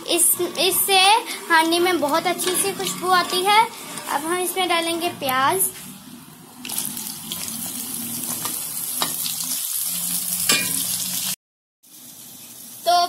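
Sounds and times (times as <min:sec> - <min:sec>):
onions sizzling in hot oil: 0:00.0 - 0:05.7, 0:06.6 - 0:13.0.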